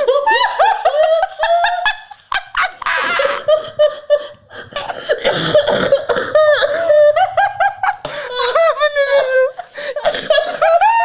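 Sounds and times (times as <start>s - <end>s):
women laughing hard: 0.0s - 11.0s.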